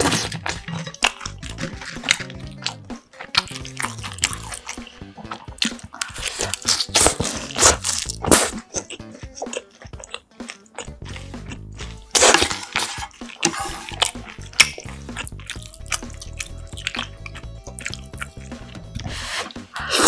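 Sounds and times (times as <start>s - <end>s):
crunchy bites of fried food: 0.0s - 19.6s
soft background music with bass: 0.0s - 20.0s
wet chewing: 0.0s - 20.0s.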